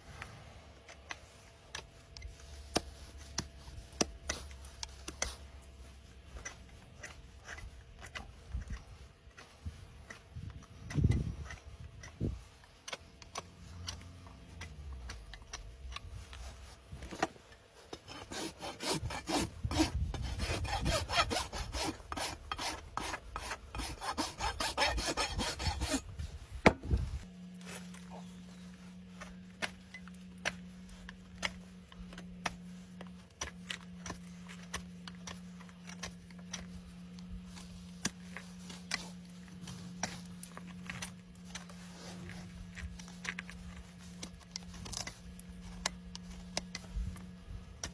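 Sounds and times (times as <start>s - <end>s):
rasp filing a hoof: 0.0s - 47.9s
steady low hum: 0.0s - 47.9s.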